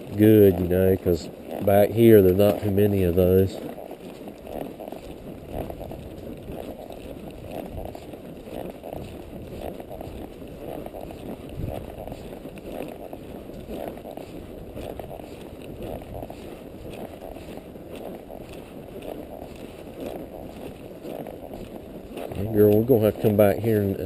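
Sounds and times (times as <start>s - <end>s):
horse footfalls on dirt: 0.0s - 24.0s.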